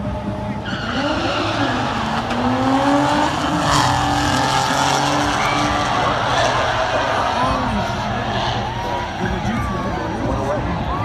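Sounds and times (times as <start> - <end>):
drag racing car accelerating: 0.1 - 10.7.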